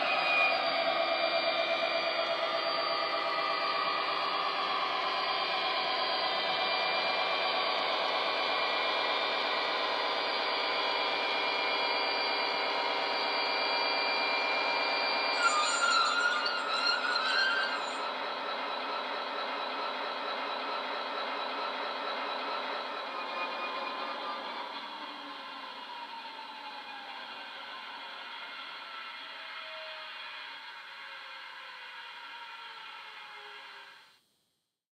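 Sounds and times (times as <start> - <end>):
diesel engine drone with whine: 0.0 - 34.0.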